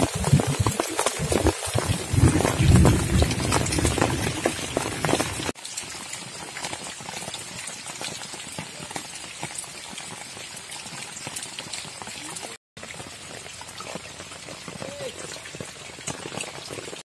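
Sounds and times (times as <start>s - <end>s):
heavy rain on a tent: 0.0s - 17.0s.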